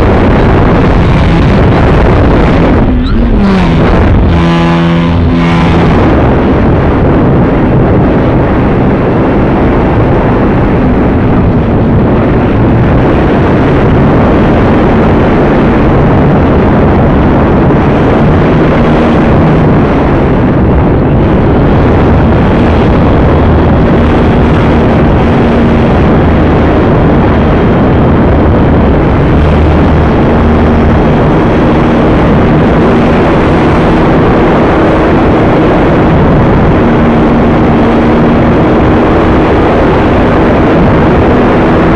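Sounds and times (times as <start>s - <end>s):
wind rush over microphone: 0.0s - 41.9s.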